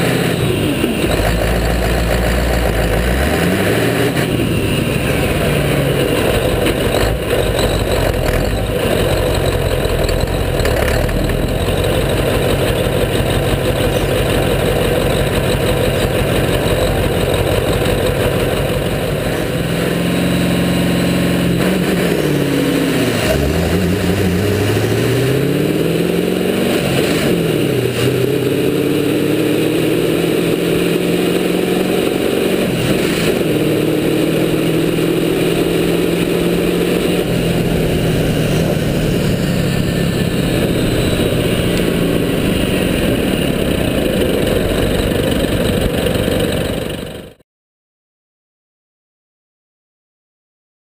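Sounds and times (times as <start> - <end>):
diesel truck engine revving: 0.0 - 47.4.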